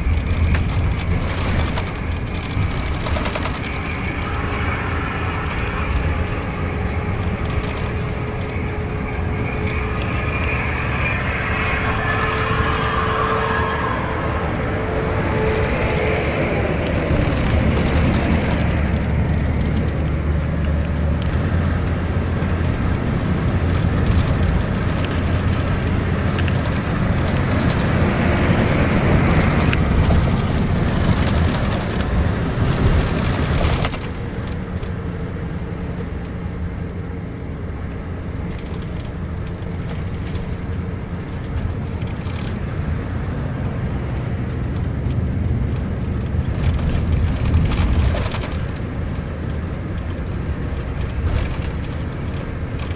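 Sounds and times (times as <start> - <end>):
bus engine and road noise: 0.0 - 52.9.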